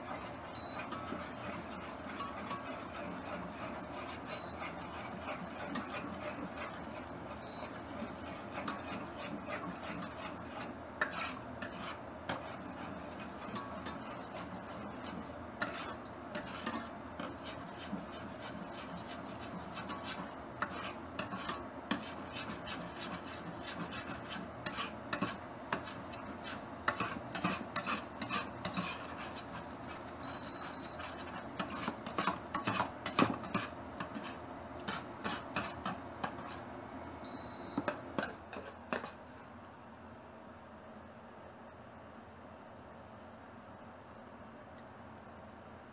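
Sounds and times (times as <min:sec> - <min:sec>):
metal ladle scraping a wok: 0:00.0 - 0:36.6, 0:38.2 - 0:39.4.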